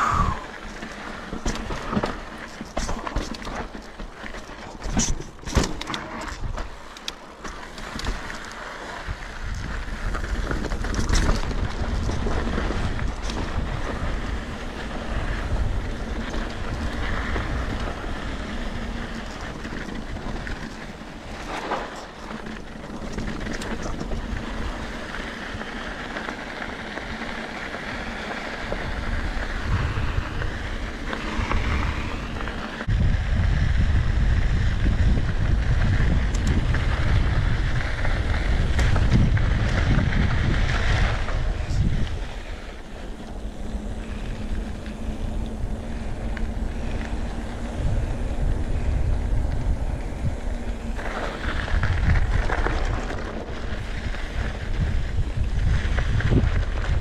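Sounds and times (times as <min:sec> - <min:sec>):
wind buffeting microphone: 0:00.0 - 0:03.8, 0:09.0 - 0:57.0
tyres rolling on dirt: 0:00.0 - 0:57.0
bike rattling and knocking: 0:00.1 - 0:57.0.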